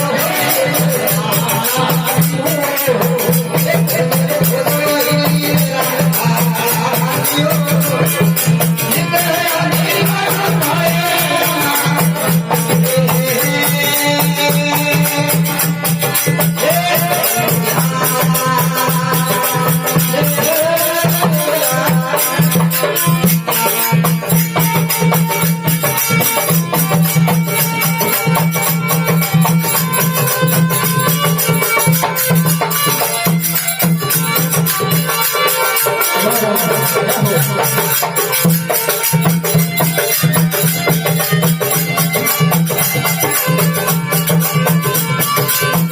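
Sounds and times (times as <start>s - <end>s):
pitch-bending folk melody: 0.0s - 45.9s
rattling hand percussion: 0.0s - 45.9s.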